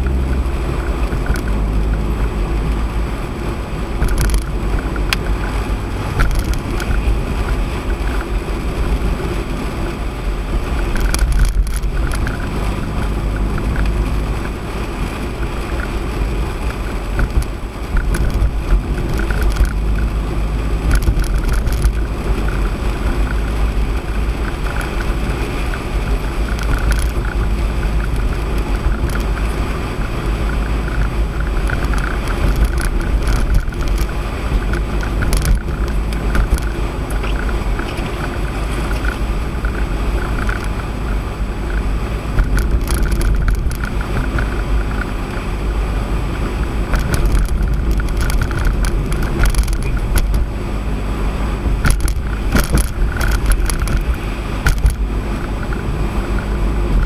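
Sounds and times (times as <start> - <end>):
low road rumble: 0.0 - 57.0.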